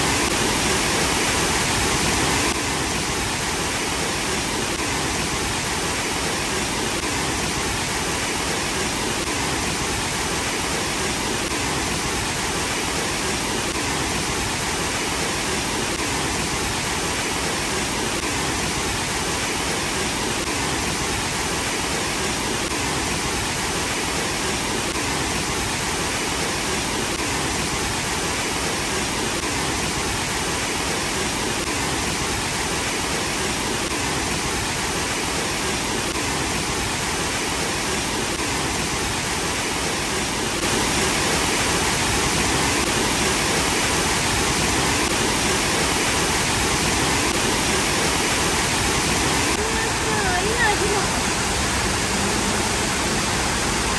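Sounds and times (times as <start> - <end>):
water cascading down steps: 0.0 - 53.9.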